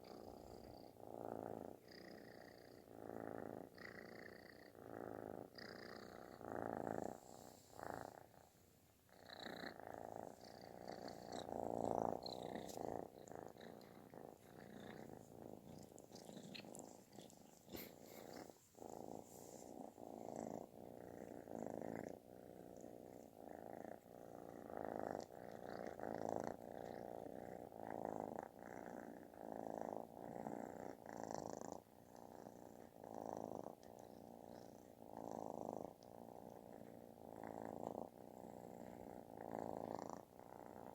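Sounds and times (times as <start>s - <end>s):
kitten purring: 0.0s - 40.9s.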